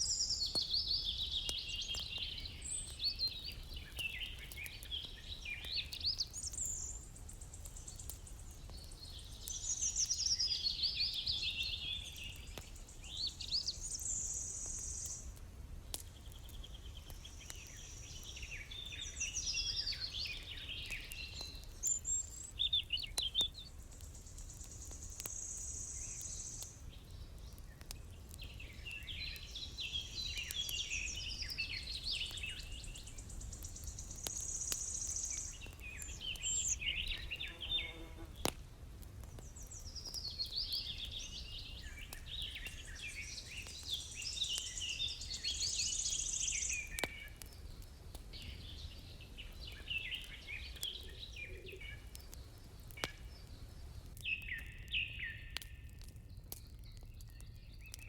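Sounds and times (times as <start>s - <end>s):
songbirds chirping and warbling: 0.0s - 58.0s.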